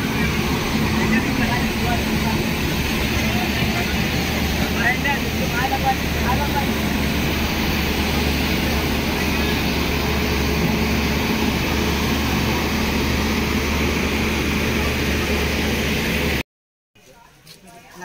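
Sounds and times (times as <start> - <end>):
locomotive machinery droning: 0.0 - 16.4.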